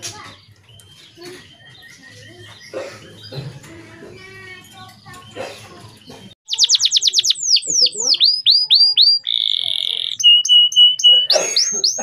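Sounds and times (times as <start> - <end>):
canary singing: 0.2 - 12.0.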